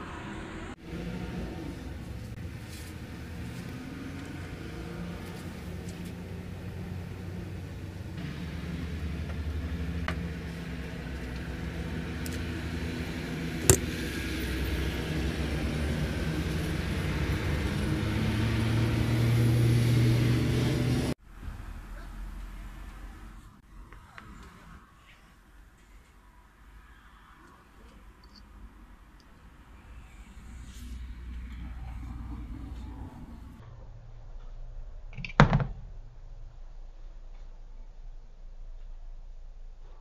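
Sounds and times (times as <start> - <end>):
vehicle engine rumbling: 0.0 - 26.7, 27.8 - 40.0.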